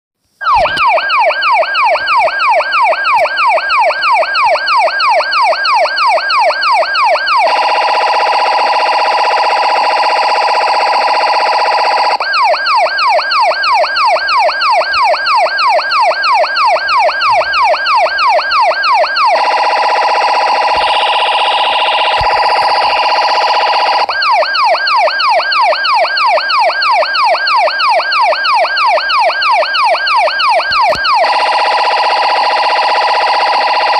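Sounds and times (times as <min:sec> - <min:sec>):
police siren yelping: 0:00.4 - 0:33.9.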